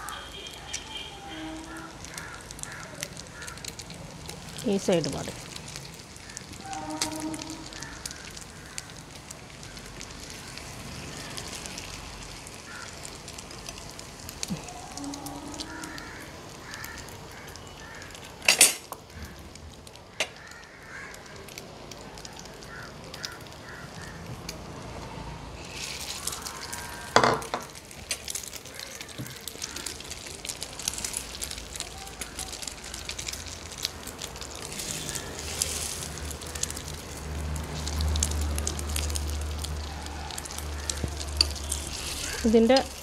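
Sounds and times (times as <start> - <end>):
buns sizzling in hot oil: 0.0 - 43.0.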